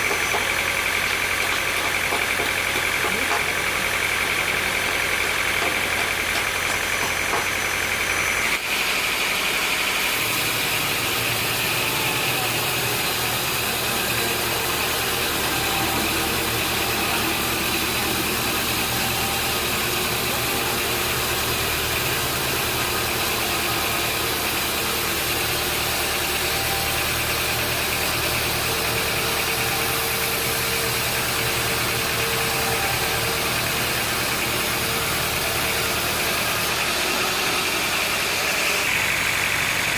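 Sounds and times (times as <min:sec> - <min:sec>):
high steady machine whine: 0:00.0 - 0:39.9
sawmill engine hum: 0:00.0 - 0:39.9.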